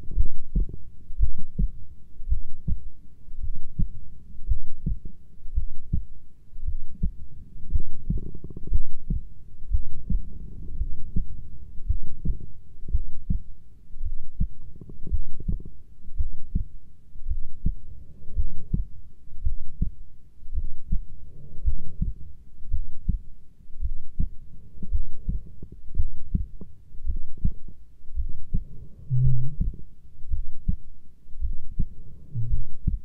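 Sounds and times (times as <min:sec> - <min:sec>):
heartbeat: 0:00.0 - 0:33.0.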